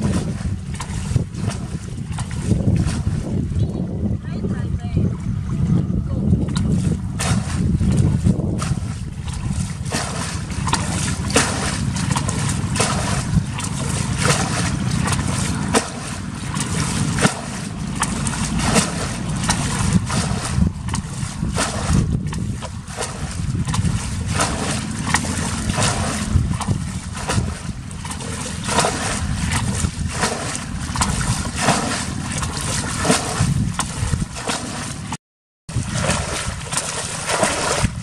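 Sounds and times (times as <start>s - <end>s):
muddy water splashing: 0.0s - 38.0s
wind on microphone: 0.0s - 38.0s.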